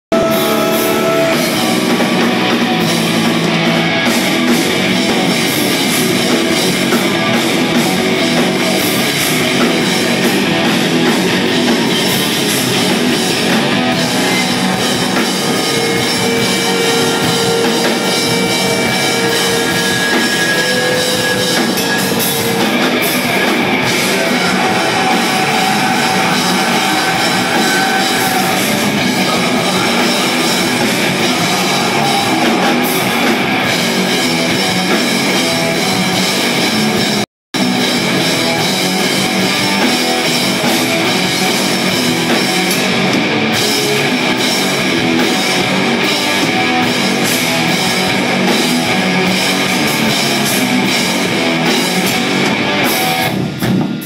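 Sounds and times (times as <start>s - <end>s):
bass guitar: 0.0s - 54.0s
distorted electric guitars: 0.1s - 54.0s
drum kit: 0.1s - 54.0s.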